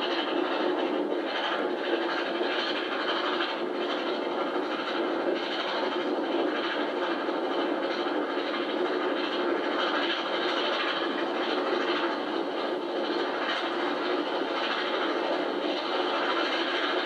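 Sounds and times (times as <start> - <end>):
steam locomotive rumbling: 0.0 - 17.0.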